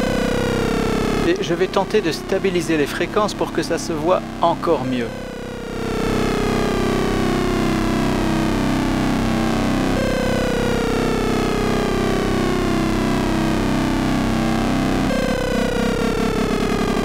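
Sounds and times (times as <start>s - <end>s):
buzzy synthesizer drone: 0.0s - 17.0s.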